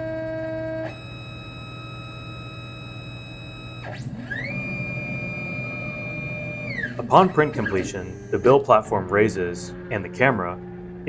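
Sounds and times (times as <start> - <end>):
printer motors whining: 0.0 - 11.0.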